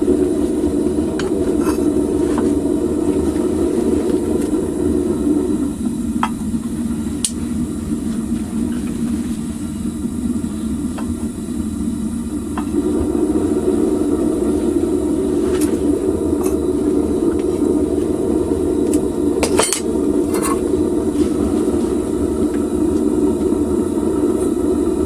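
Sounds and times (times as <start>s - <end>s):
propane burner roaring: 0.0s - 25.0s.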